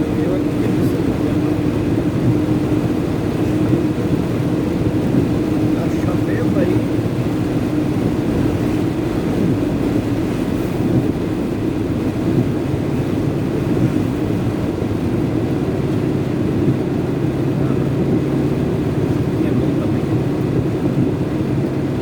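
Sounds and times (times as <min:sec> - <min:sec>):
tyre noise on wet road: 0:00.0 - 0:22.0
vehicle engine drone: 0:00.0 - 0:22.0.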